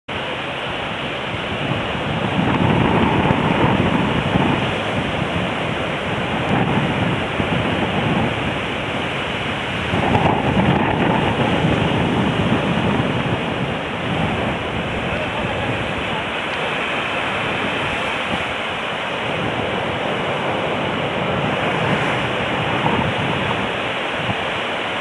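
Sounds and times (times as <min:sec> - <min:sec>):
ocean surf breaking: 0:00.1 - 0:25.0
wind buffeting microphone: 0:00.1 - 0:25.0.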